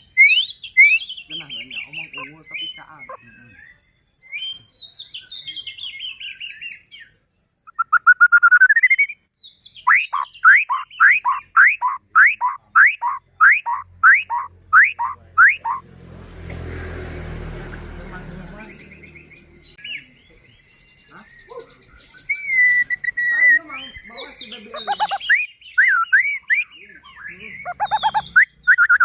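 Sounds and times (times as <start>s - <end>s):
bird singing whistles and trills: 0.0s - 15.8s, 17.7s - 29.0s.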